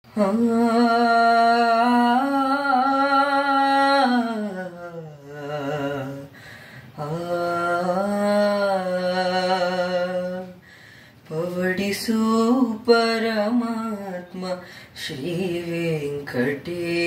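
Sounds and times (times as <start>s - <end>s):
boy singing unaccompanied: 0.1s - 6.3s, 7.0s - 10.6s, 11.3s - 17.0s.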